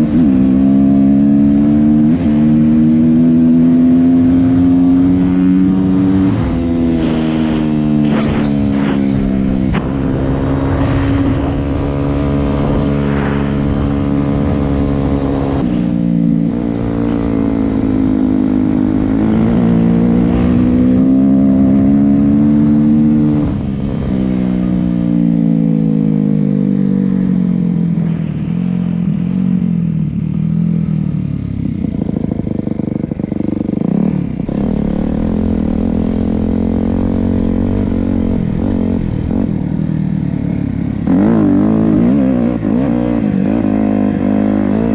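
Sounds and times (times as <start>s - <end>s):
dirt bike engine revving: 0.0s - 23.6s, 31.9s - 44.9s.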